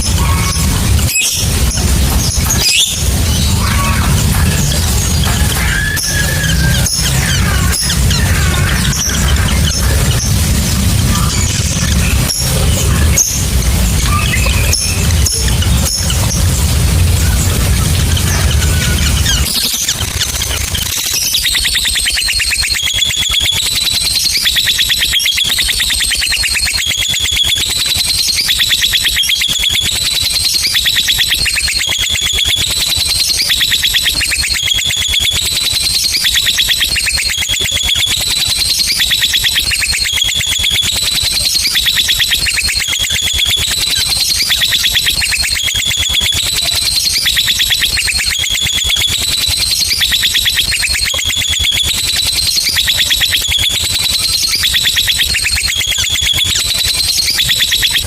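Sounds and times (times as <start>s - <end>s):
lovebird chattering trill: 0.0s - 58.0s.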